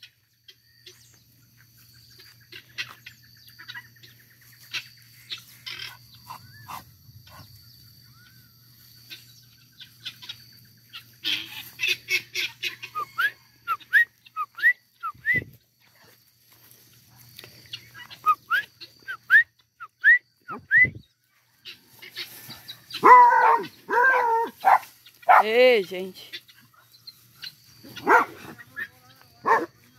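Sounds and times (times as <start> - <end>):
guineafowl calling: 0.0 - 15.6, 17.5 - 25.5, 26.2 - 29.9.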